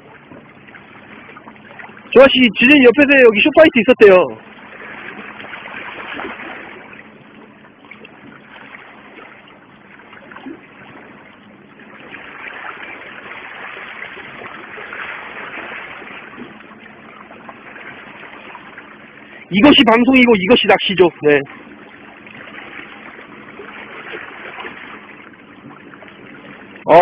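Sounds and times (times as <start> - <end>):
sea water lapping against rocks: 0.0 - 27.0.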